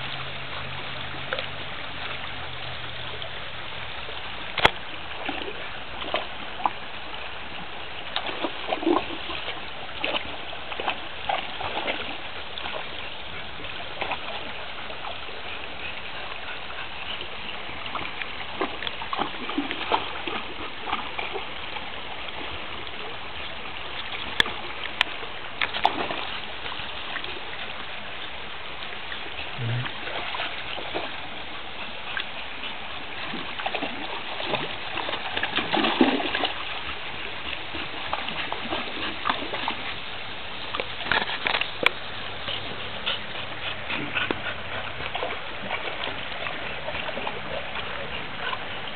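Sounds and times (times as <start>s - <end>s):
creek water running over rock: 0.0s - 48.9s
dog splashing through water: 4.6s - 27.8s, 29.1s - 48.9s.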